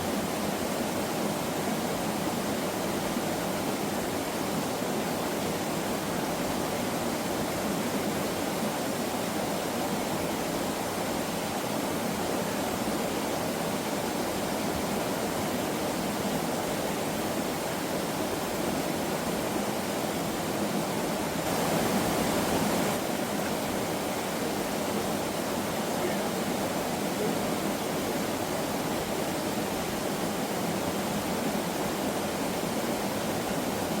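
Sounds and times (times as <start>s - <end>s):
stream water rushing: 0.0s - 34.0s.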